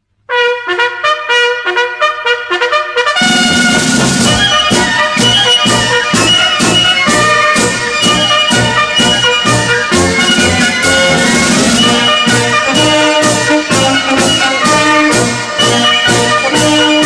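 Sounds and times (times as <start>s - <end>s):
brass fanfare: 0.3s - 17.0s
military band playing a march: 0.3s - 17.0s.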